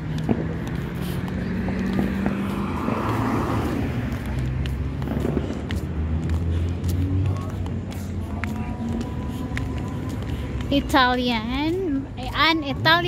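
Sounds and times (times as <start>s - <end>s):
car passing by: 0.0s - 10.9s
low engine hum of traffic: 0.0s - 13.0s.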